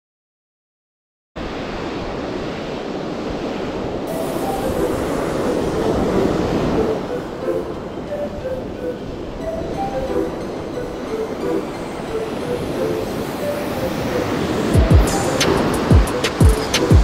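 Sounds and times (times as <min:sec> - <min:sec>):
wind on microphone: 0:01.4 - 0:17.0.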